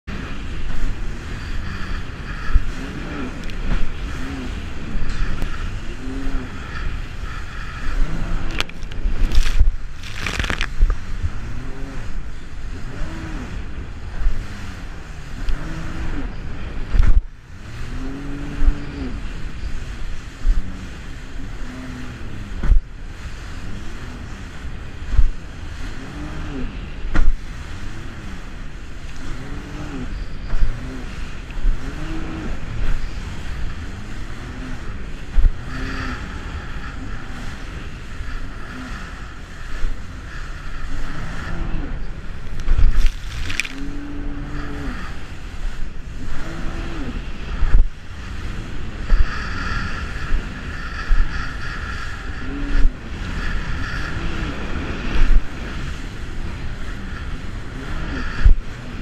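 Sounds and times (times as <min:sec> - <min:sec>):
rushing water and spray: 0:00.0 - 0:59.0
jet ski engine revving: 0:00.1 - 0:59.0.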